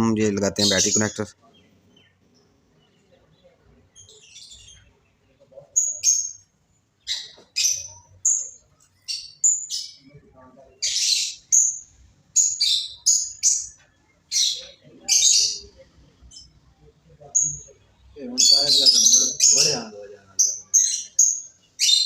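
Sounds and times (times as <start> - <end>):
small bird chirping: 0.4 - 22.0.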